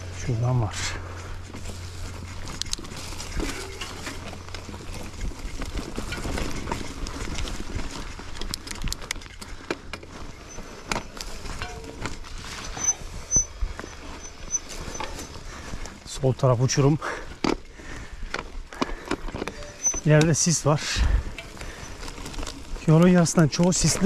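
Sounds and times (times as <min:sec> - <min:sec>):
bike tyres on dirt and stones: 0:00.0 - 0:24.0
bike rattling and knocking: 0:01.2 - 0:24.0.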